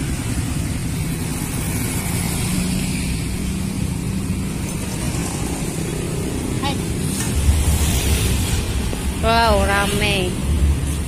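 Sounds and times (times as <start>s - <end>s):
roadside traffic hum: 0.0s - 11.0s.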